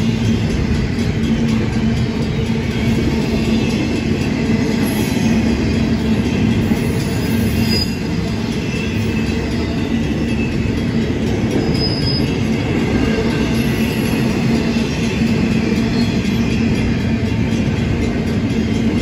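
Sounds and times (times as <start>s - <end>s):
freight train wheels rumbling: 0.0s - 19.0s
train wheel squeals: 0.0s - 19.0s.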